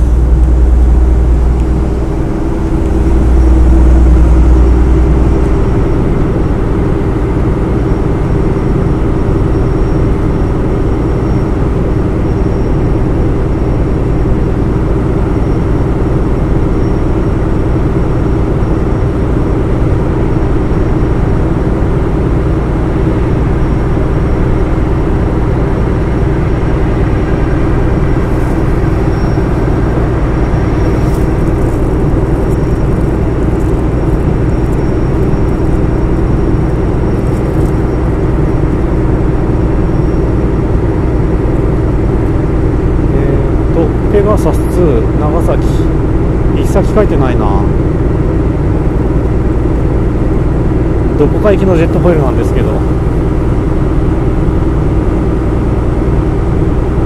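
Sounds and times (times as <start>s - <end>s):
ferry engines humming: 0.0s - 57.0s.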